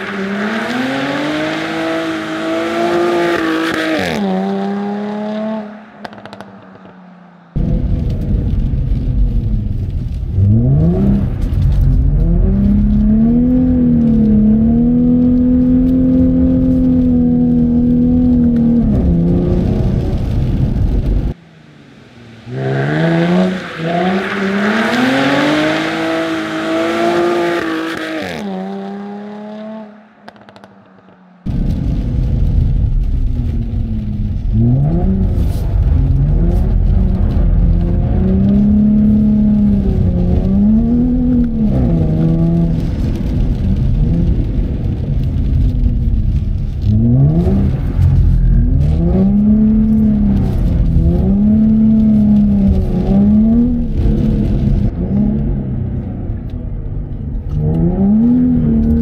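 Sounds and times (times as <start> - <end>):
car engine revving: 0.0 - 9.4, 10.1 - 32.0, 33.4 - 45.7, 46.6 - 59.0.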